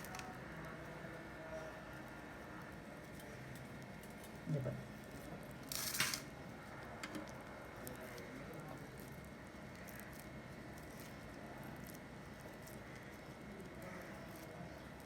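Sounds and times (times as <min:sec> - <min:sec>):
puffed rice rustling and crackling: 0:00.0 - 0:15.0.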